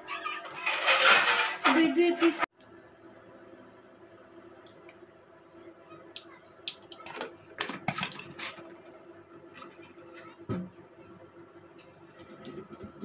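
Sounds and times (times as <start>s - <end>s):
steady low hum: 2.4s - 13.0s.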